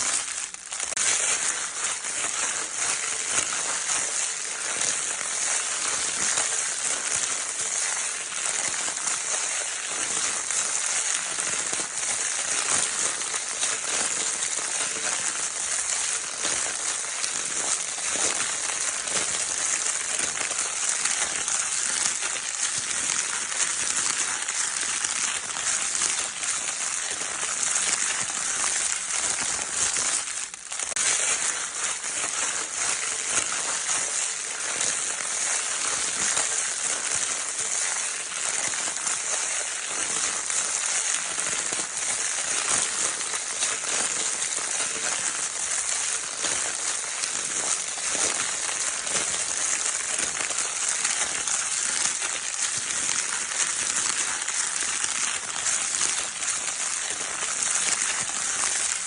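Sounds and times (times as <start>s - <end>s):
crinkle paper toy rustling: 0.0s - 59.0s.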